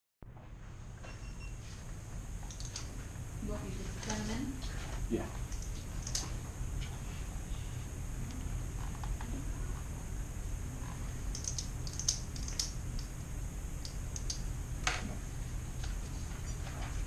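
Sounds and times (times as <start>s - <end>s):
low room hum: 0.2s - 17.0s.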